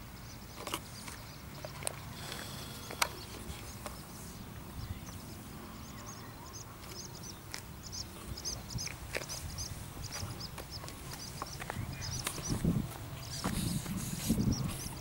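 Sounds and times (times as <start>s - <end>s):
small bird chirping: 0.1s - 15.0s.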